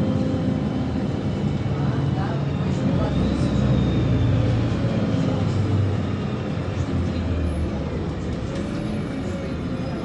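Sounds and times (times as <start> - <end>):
bus engine rumble: 0.0 - 10.0
road noise: 0.0 - 10.0.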